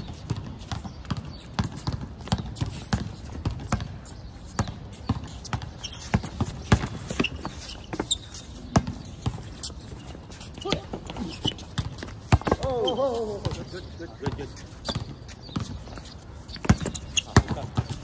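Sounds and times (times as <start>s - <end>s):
basketball bouncing on concrete: 0.0s - 18.0s
sneakers scuffing: 0.0s - 18.0s.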